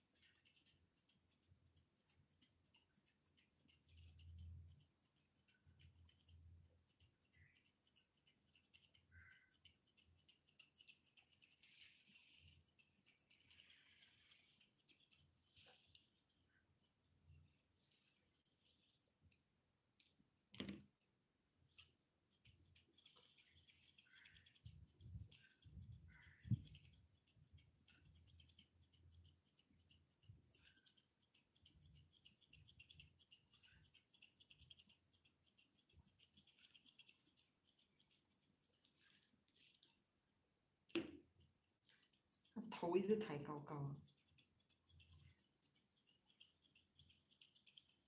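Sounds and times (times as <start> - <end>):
scissors snipping fur: 0.0 - 15.2, 21.8 - 39.9, 41.4 - 48.0.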